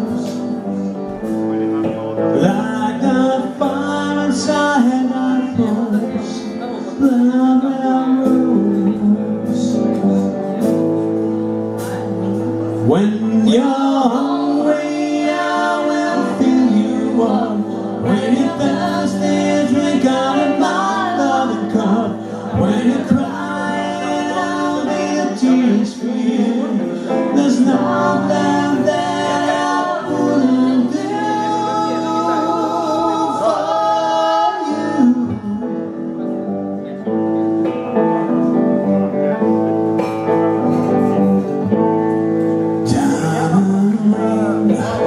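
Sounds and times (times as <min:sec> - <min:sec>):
man singing lead vocal: 0:00.0 - 0:11.0, 0:11.9 - 0:37.0, 0:40.5 - 0:45.0
drums: 0:00.0 - 0:45.0
electric guitar: 0:00.0 - 0:45.0.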